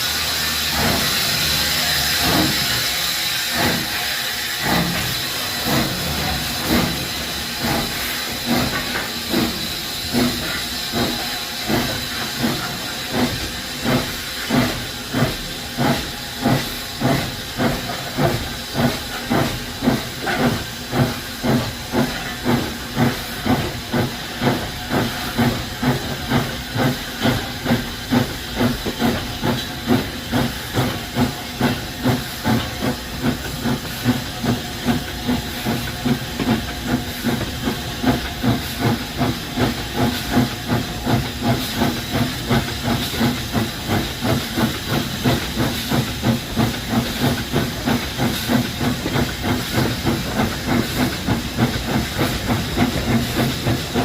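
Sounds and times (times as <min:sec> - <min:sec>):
steam hissing: 0:00.0 - 0:54.0
steam locomotive chuffing: 0:00.0 - 0:54.0.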